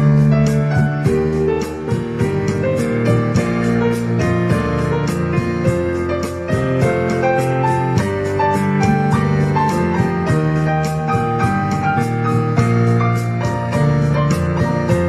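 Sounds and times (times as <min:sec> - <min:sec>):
piano music with steady beat: 0:00.0 - 0:15.0.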